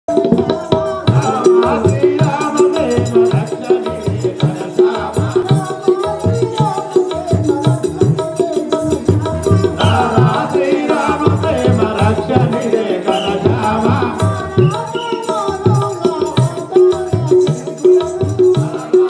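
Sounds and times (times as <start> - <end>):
hand drum beating: 0.1 - 19.0.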